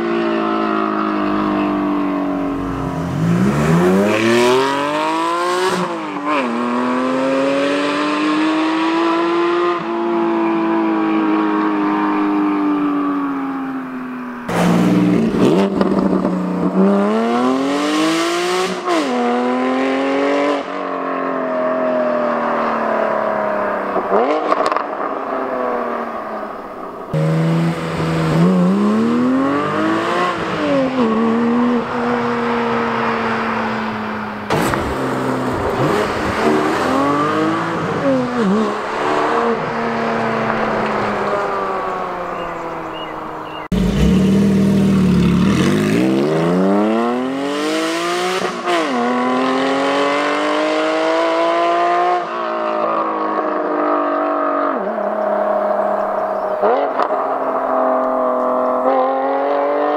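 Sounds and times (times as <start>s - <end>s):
car engine revving: 0.0s - 13.3s, 14.4s - 59.9s.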